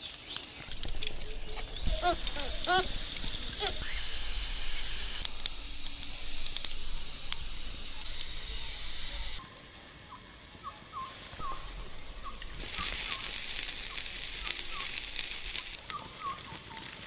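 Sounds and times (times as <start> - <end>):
coals crackling and popping: 0.0 - 17.0
meat sizzling over charcoal: 0.0 - 17.0.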